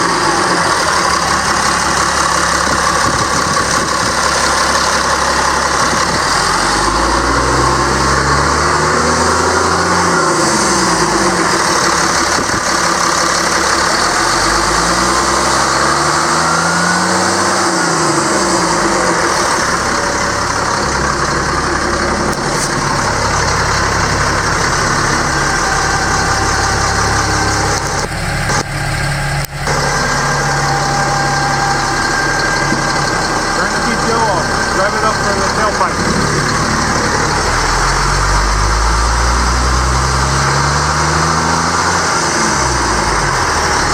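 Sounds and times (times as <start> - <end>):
diesel engine idling: 0.0 - 43.9
diesel truck engine revving: 0.0 - 43.9.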